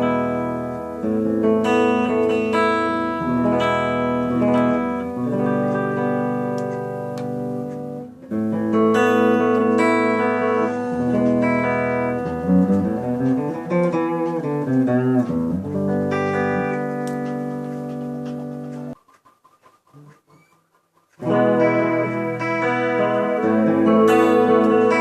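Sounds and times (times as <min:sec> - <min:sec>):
guitar playing: 0:00.0 - 0:19.0, 0:21.2 - 0:25.0.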